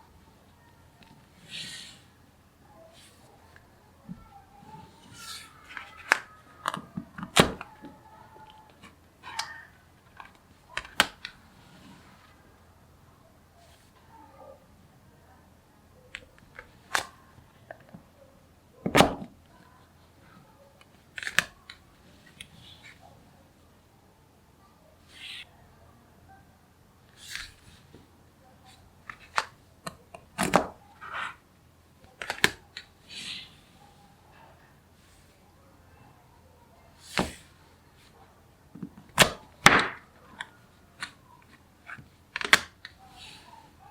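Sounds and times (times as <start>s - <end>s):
soft rustles of sliding balls: 0.0s - 15.1s, 19.4s - 24.2s, 27.0s - 43.9s.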